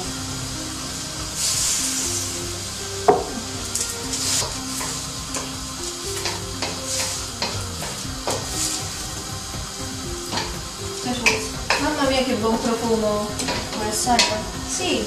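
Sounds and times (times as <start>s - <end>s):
food sizzling in wok: 0.0s - 15.0s.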